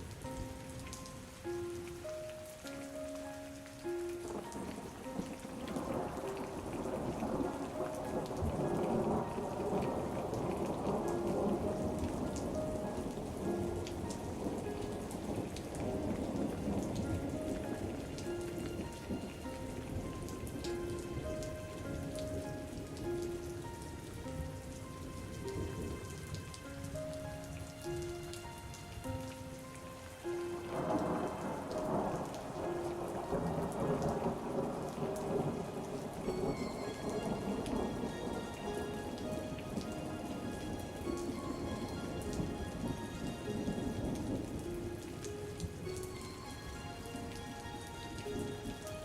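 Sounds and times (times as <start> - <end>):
soft slow melody: 0.0 - 49.0
steady rain falling: 0.0 - 49.0.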